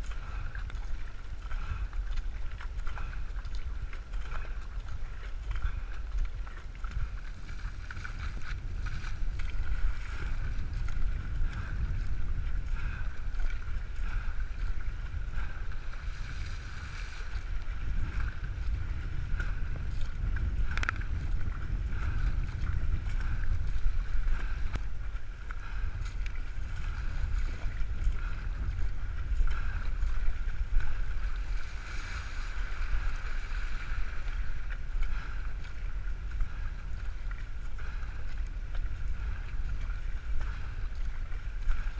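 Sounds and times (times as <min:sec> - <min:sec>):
water splashing along a hull: 0:00.0 - 0:41.9
wind buffeting microphone: 0:00.0 - 0:41.9.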